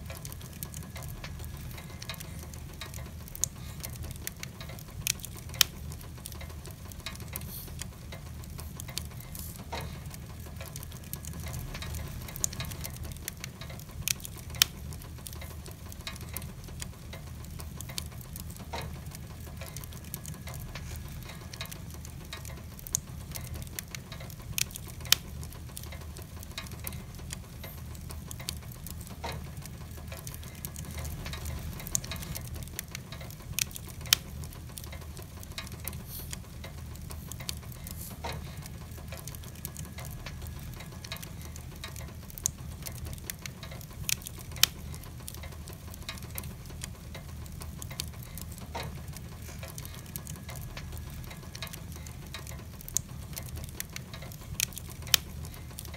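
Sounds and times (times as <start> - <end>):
fire popping sharply: 0.0 - 55.9
low steady rumble: 0.0 - 55.9
wood fire crackling: 0.0 - 55.9.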